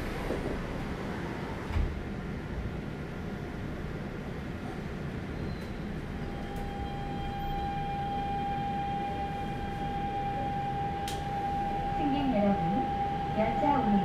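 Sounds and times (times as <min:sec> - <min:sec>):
steady train whine: 0:00.0 - 0:14.0.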